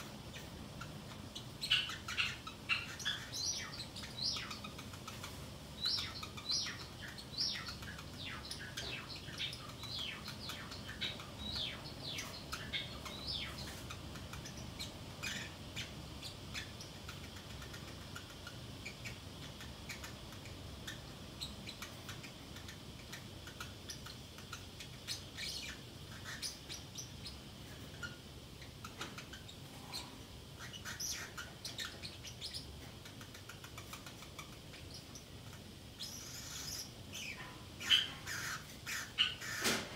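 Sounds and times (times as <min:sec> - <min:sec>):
parrot chirping: 0:00.0 - 0:39.9.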